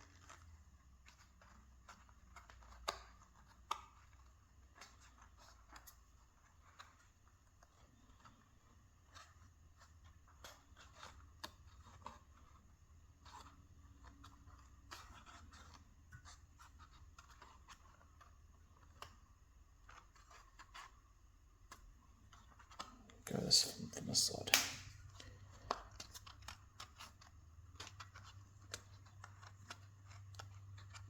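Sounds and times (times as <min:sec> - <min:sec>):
cotton bud scratching foam: 0:00.0 - 0:31.0.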